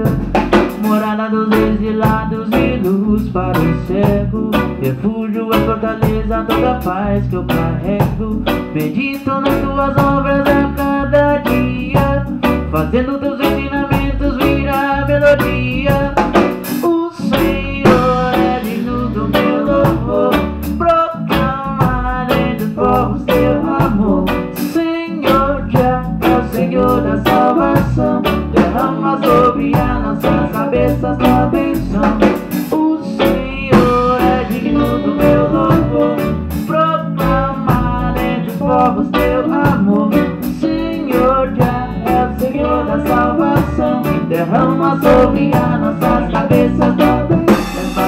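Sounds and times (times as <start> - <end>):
electric guitar: 0.0 - 48.0
live band playing: 0.0 - 48.0.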